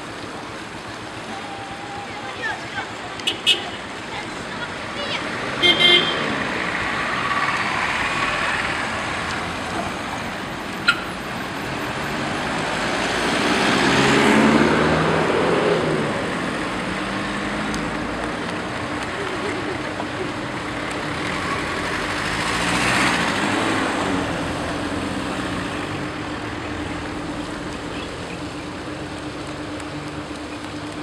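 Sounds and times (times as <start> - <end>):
vehicles passing close: 0.0 - 31.0.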